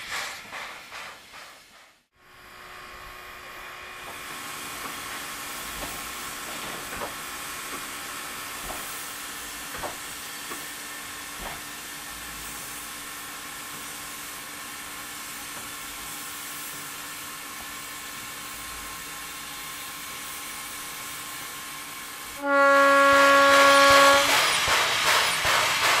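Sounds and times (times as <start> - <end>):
steam hissing: 0.0 - 2.1, 4.0 - 26.0.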